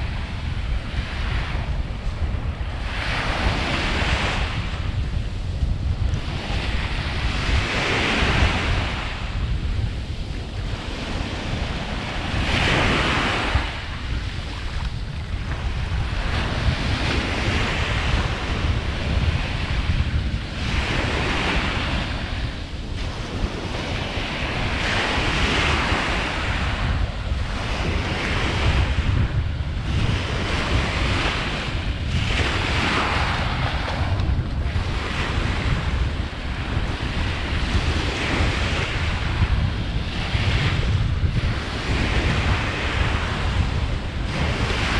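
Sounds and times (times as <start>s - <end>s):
small waves breaking on sand: 0.0s - 44.9s
wind rumble on microphone: 0.0s - 44.9s.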